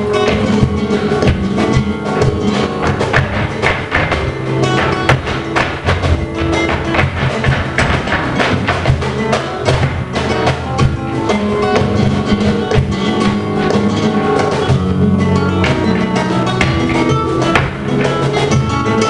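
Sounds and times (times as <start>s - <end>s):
flamenco acoustic guitar: 0.0s - 19.0s.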